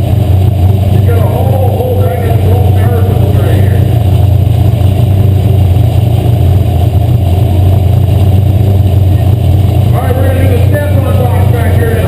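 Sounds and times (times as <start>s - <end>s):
race car engine running loud: 0.0s - 12.0s.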